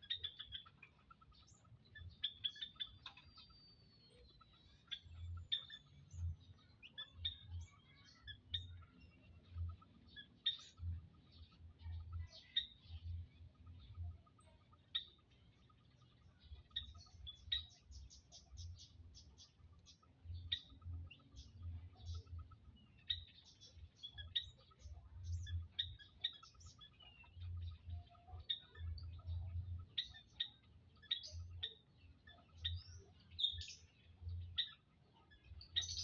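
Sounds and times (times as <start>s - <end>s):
quail chirping: 0.0s - 36.0s.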